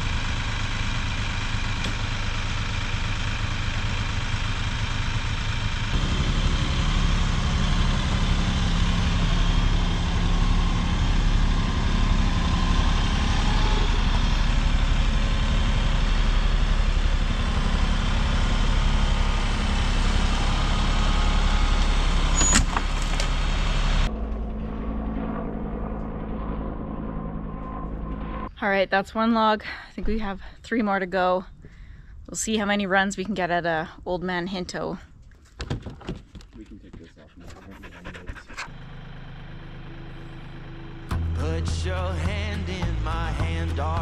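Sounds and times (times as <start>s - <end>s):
tractor diesel engine running: 0.0s - 35.3s, 36.5s - 44.0s.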